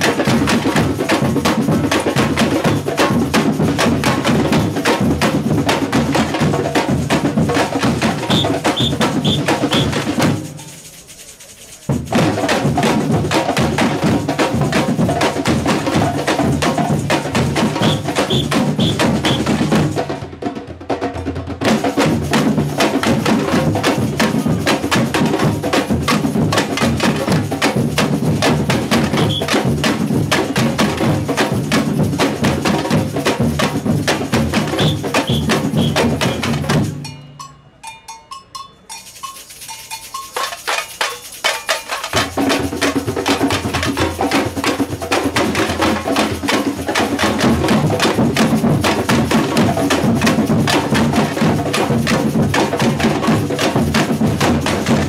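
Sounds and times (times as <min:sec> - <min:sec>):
deeper drums: 0:00.0 - 0:10.7, 0:11.9 - 0:37.2, 0:42.1 - 0:55.0
samba percussion group playing: 0:00.0 - 0:37.8, 0:38.4 - 0:55.0.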